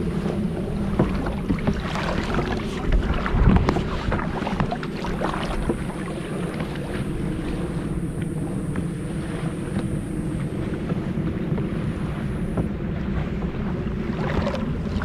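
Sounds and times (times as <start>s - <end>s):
water sloshing and splashing: 0.0s - 15.0s
wind buffeting microphone: 0.0s - 15.0s.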